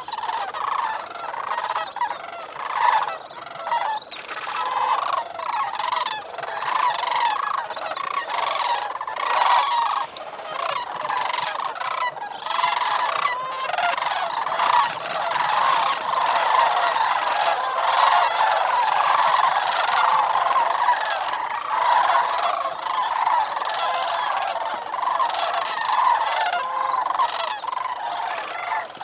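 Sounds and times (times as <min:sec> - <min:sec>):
flock of cranes calling: 0:00.0 - 0:29.0.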